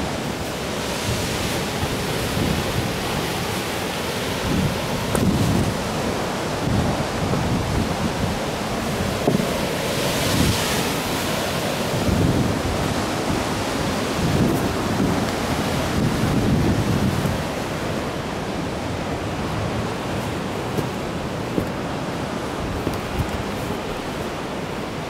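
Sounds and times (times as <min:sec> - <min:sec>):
surf breaking on rocks: 0:00.0 - 0:25.0
wind buffeting microphone: 0:04.2 - 0:25.0.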